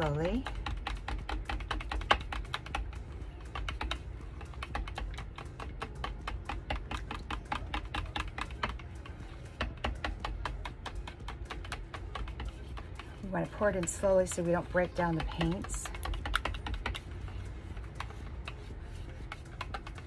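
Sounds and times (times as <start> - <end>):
stir stick scraping a cup: 0.0 - 20.0.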